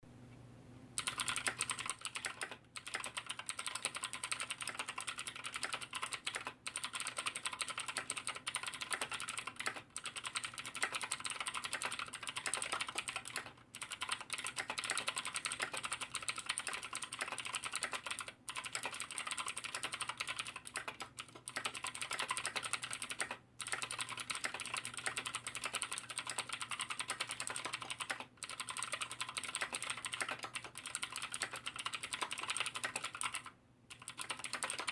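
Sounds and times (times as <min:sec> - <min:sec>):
fast mechanical keyboard typing: 0:01.0 - 0:34.9.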